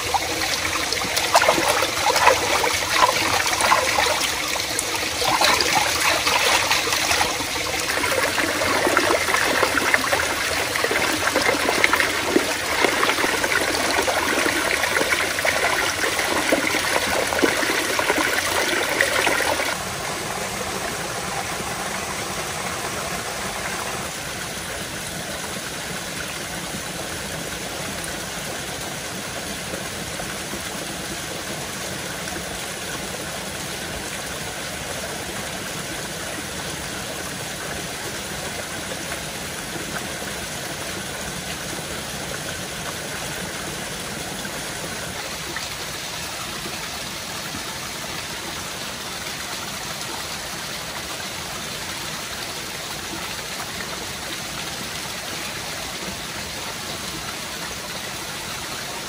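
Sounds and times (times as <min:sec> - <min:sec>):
water rushing and splashing: 0:00.0 - 0:59.0.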